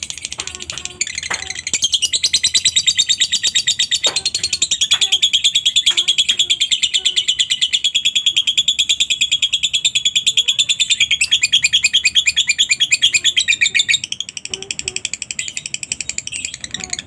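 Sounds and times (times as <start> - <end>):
lovebird trilling chatter: 0.0 - 17.0.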